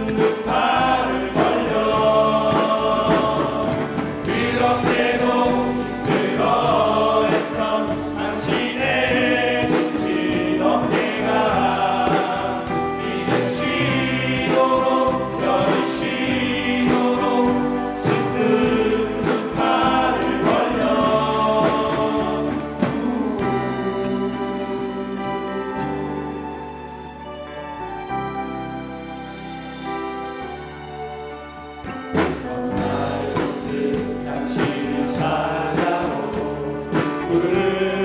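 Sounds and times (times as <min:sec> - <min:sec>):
men singing a hymn in harmony: 0:00.0 - 0:26.1, 0:32.7 - 0:38.0
instrumental accompaniment: 0:00.0 - 0:38.0.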